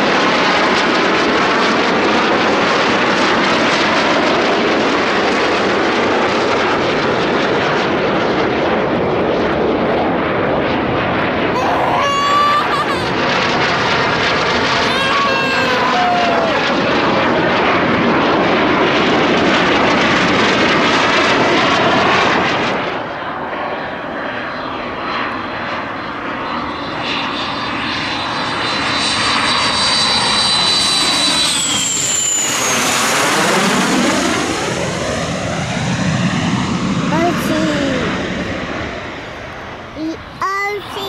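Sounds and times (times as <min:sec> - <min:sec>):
jet engine rush with high whine: 0:00.0 - 0:41.0.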